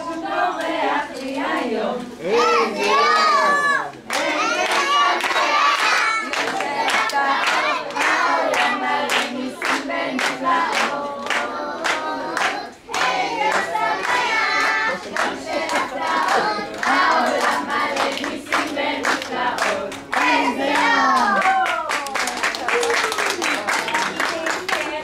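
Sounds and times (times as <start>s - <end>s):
group singing together: 0.0s - 21.4s, 23.6s - 25.0s
hands clapping in rhythm: 4.0s - 25.0s.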